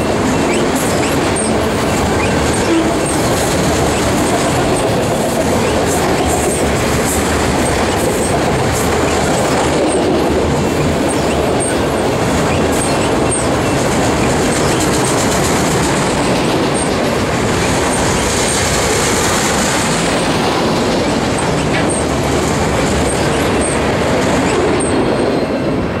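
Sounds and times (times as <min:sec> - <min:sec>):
freight car wheels on rail: 0:00.0 - 0:26.0.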